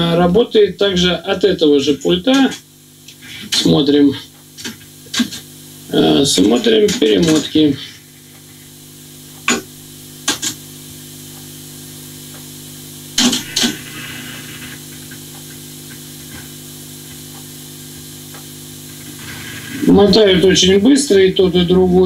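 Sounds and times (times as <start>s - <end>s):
cassette decks fast-winding tape: 0.0s - 22.0s.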